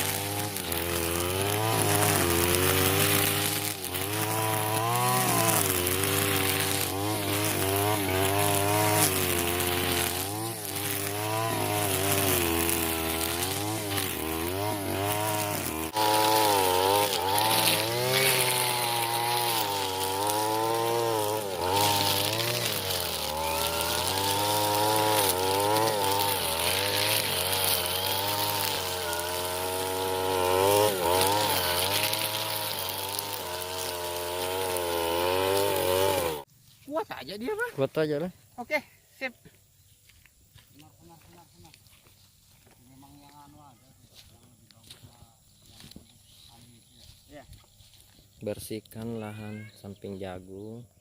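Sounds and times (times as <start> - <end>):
brush cutter engine cutting weeds: 0.0 - 50.8.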